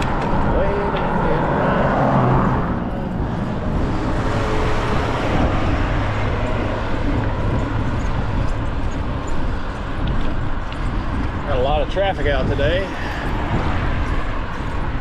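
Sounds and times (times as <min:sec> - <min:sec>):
bicycle road noise: 0:00.0 - 0:15.0
wind rushing: 0:00.0 - 0:15.0.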